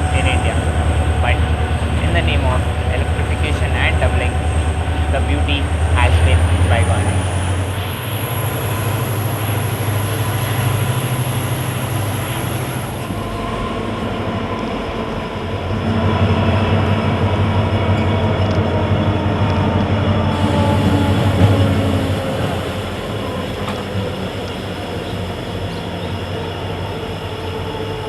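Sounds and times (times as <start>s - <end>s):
faint high whine: 0.0s - 18.6s, 20.3s - 27.9s
train mechanical hum: 0.0s - 28.0s.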